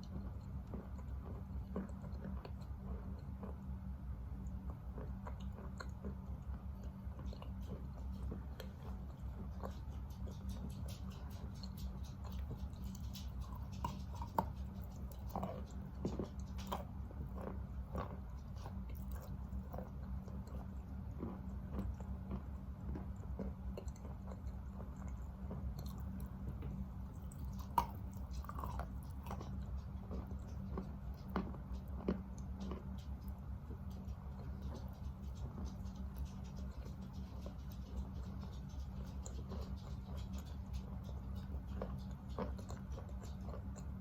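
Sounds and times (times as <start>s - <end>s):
chewing chalk crunches: 0.0s - 44.0s
steady low hum: 0.0s - 44.0s.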